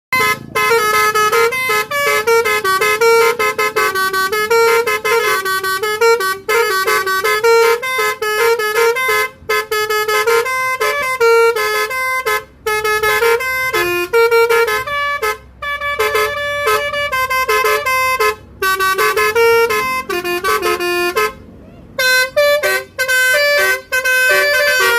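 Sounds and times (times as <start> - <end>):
musical car horn tune: 0.1 - 24.9.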